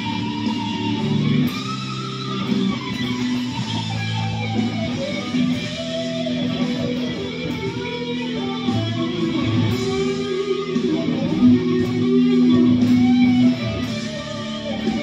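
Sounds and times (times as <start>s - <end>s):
guitar plucked and strummed: 0.0s - 15.0s.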